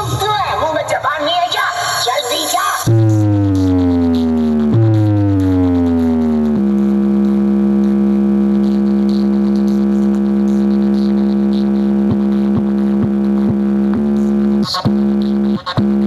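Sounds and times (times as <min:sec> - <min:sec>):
electronic synthesizer tone: 0:02.8 - 0:16.0.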